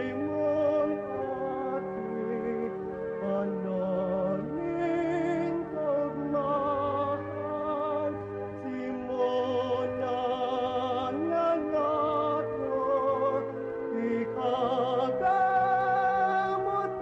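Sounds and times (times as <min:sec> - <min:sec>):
person singing with vibrato: 0:00.0 - 0:17.0
sustained instrumental accompaniment: 0:00.0 - 0:17.0.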